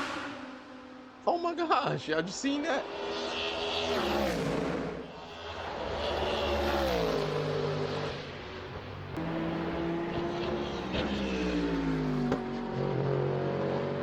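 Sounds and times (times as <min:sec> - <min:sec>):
race car engine and exhaust: 0:00.0 - 0:14.0.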